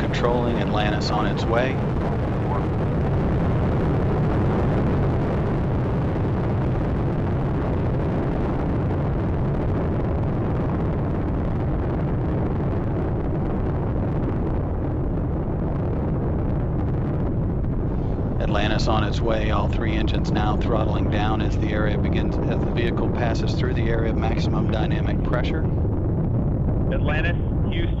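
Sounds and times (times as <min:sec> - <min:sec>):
deep rocket engine rumble: 0:00.0 - 0:28.0.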